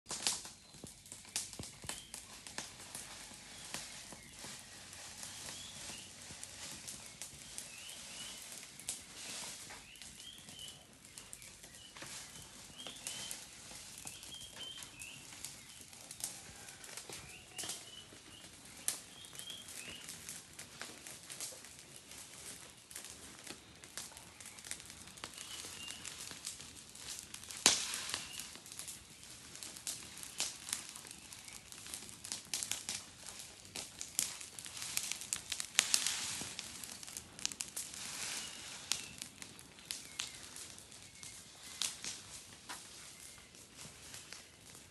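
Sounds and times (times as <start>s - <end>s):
small birds chirping: 0.1s - 44.8s.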